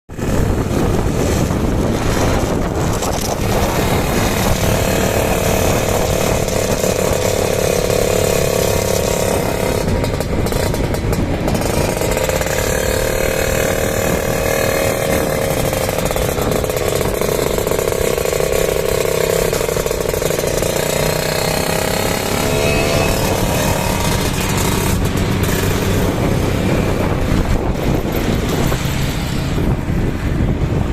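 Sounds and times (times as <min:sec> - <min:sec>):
two-stroke motorcycle engine revving: 0:00.1 - 0:30.9.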